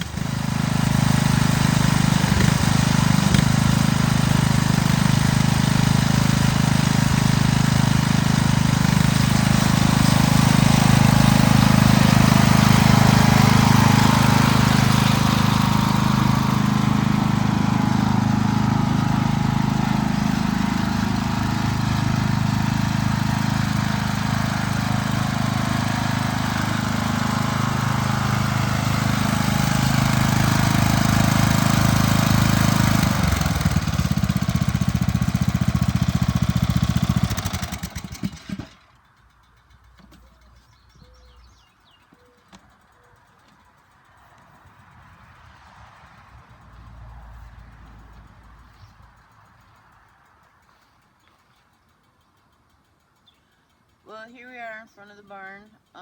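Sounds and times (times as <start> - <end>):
lawn mower engine running: 0.0 - 53.1, 53.8 - 56.0.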